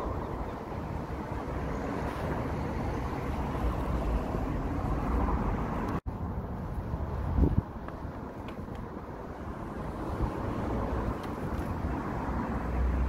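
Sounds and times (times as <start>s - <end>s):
outdoor background noise: 0.0s - 13.0s
wind rumbling on microphone: 0.0s - 13.0s.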